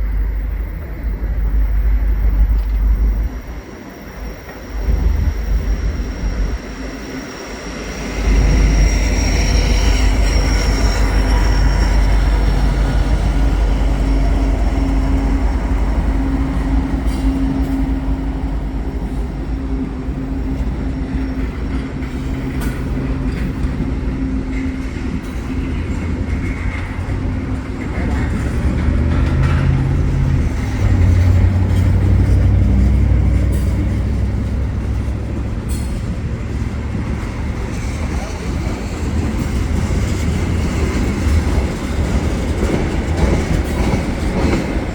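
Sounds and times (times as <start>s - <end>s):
diesel locomotive engine drone: 0.0s - 44.9s
wheel and rail noise: 0.0s - 44.9s.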